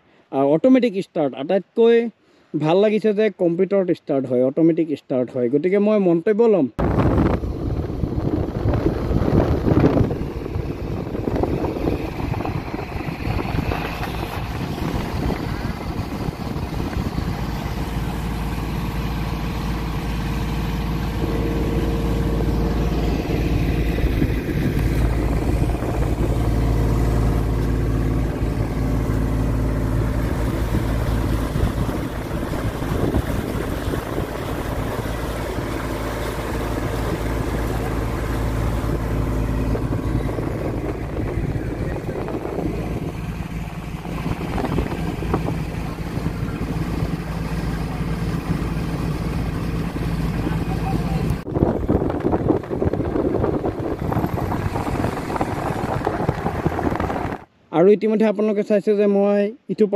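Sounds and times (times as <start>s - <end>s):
boat engine droning: 6.8s - 57.6s.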